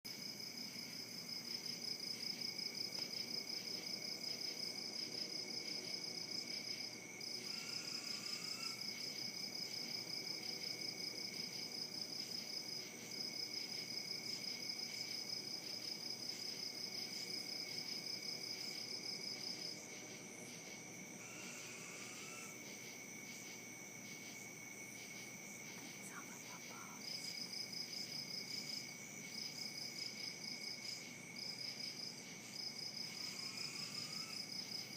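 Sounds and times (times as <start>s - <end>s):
insects droning: 0.1s - 34.9s
insect pulsing trill: 0.2s - 34.9s.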